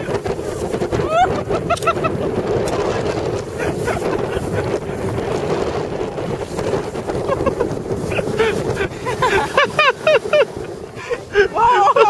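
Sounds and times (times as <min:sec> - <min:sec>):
snow tube sliding on snow: 0:00.0 - 0:12.0
wind on microphone: 0:00.0 - 0:12.0.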